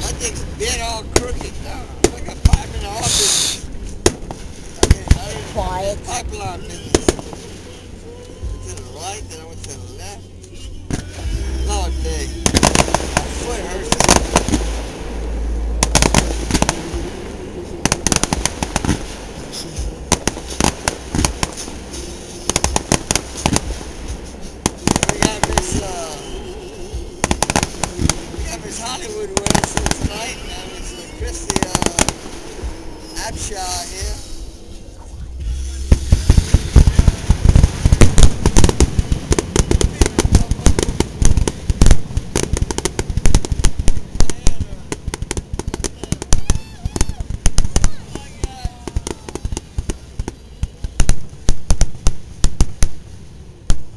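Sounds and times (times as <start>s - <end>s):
deep rumbling firework boom: 0.0s - 7.6s, 10.9s - 26.2s, 26.8s - 53.9s
firework bangs and crackles: 0.0s - 53.9s.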